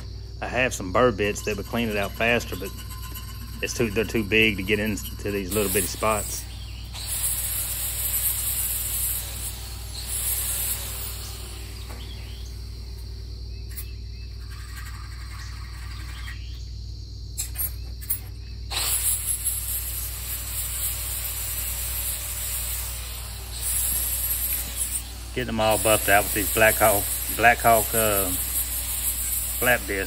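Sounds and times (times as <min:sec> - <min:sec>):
angle grinder grinding metal: 0:00.0 - 0:16.4, 0:17.4 - 0:30.0.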